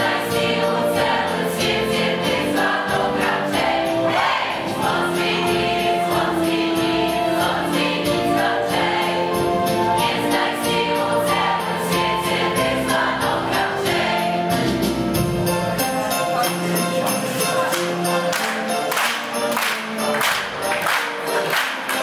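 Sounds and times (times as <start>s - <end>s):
teenagers singing a carol: 0.0s - 14.9s, 16.7s - 22.0s
steady percussive beat: 0.0s - 22.0s.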